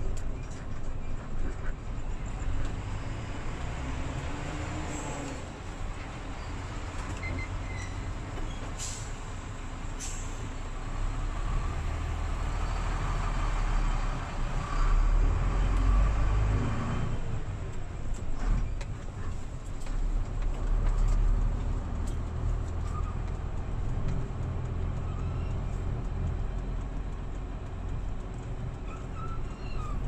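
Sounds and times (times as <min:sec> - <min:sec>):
truck engine and road noise: 0:00.0 - 0:30.0.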